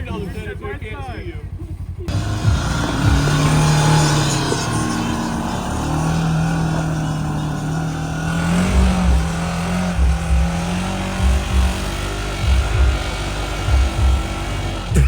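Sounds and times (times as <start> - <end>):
utility vehicle engine running hard: 0.0 - 15.0
low thumps: 2.1 - 15.0.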